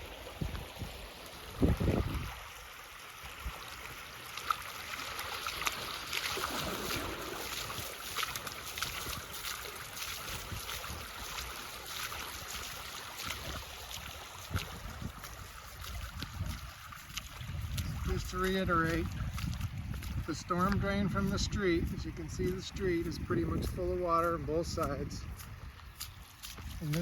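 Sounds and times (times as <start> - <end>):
floodwater rushing and splashing: 0.0 - 27.0
wind rumble on microphone: 0.3 - 2.4, 6.5 - 11.5, 12.5 - 27.0.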